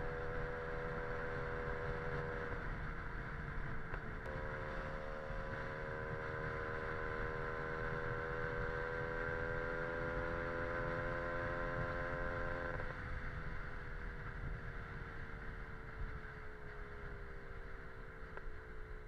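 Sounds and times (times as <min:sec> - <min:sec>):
wind rumble on microphone: 0:00.0 - 0:17.8.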